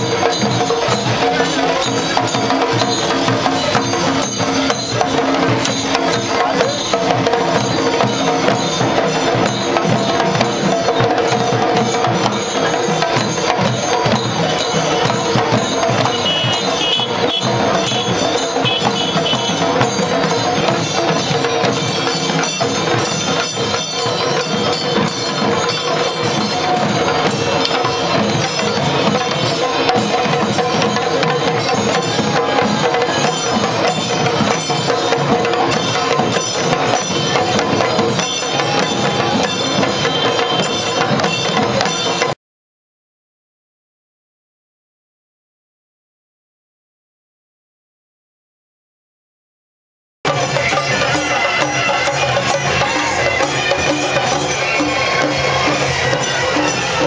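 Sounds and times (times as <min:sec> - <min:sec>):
drums beaten with sticks: 0:00.0 - 0:42.4, 0:50.2 - 0:57.0.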